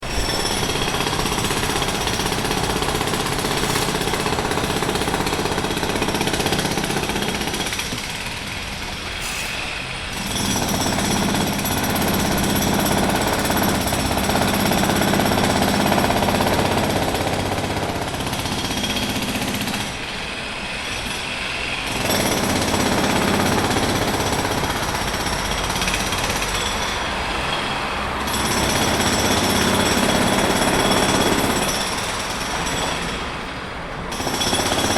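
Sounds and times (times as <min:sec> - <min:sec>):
jackhammer hammering: 0:00.0 - 0:09.1, 0:10.0 - 0:20.2, 0:20.9 - 0:34.9.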